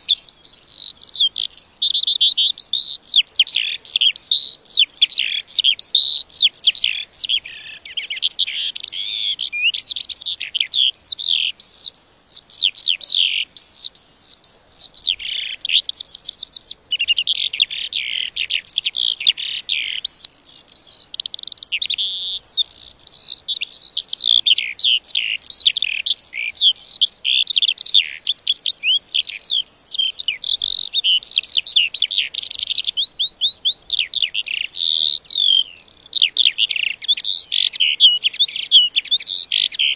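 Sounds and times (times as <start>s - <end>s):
lark singing: 0.0s - 39.9s.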